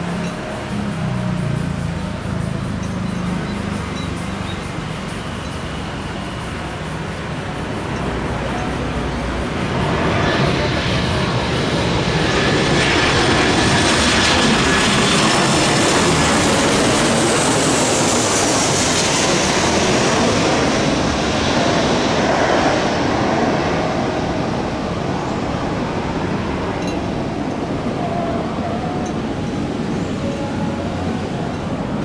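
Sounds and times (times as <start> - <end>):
jet airliner passing: 0.0 - 32.0
jet engine high whine: 0.0 - 32.0.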